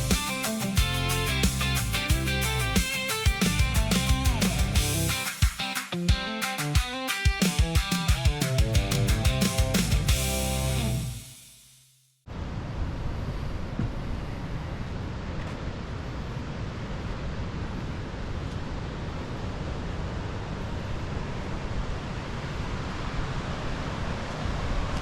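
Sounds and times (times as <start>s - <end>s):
steady rushing noise: 0.0s - 11.3s, 12.3s - 25.0s.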